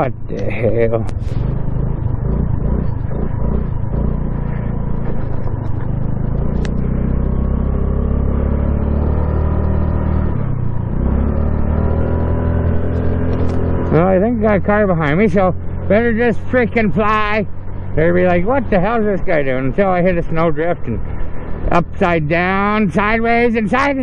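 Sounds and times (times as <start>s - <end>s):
motorbike engine under throttle: 0.0s - 20.2s.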